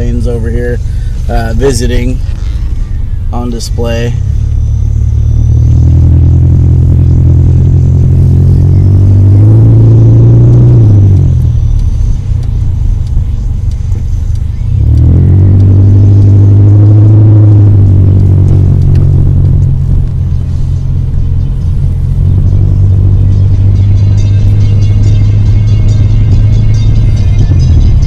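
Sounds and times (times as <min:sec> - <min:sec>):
car engine hum from inside cabin: 0:00.0 - 0:28.0.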